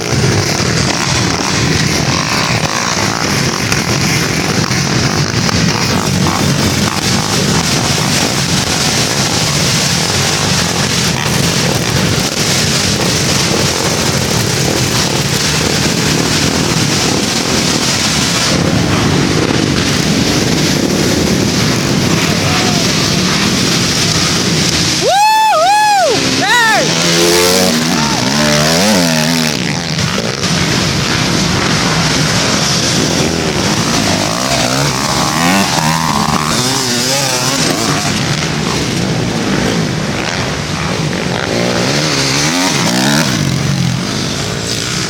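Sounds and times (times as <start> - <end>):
dirt bike engines running: 0.0 - 45.0
wind buffeting microphone: 0.0 - 45.0.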